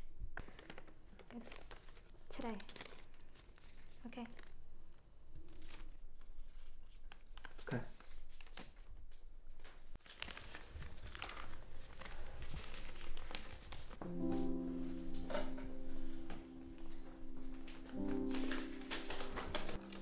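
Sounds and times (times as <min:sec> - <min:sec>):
paper rustling and crinkling: 0:00.4 - 0:20.0.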